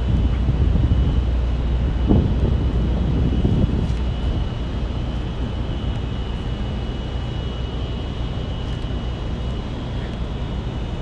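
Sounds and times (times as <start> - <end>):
faint high whine: 0.0 - 11.0
low traffic rumble: 0.0 - 11.0.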